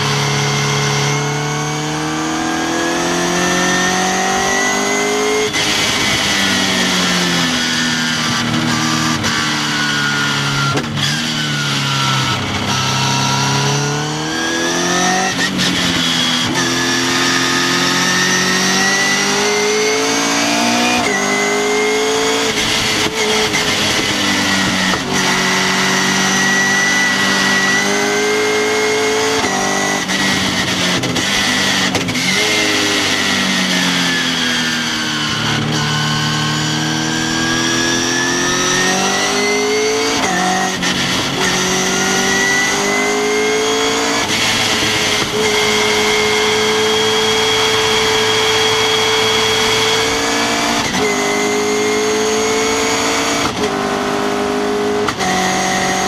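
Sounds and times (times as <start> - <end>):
sports car engine revving: 0.0 - 56.0.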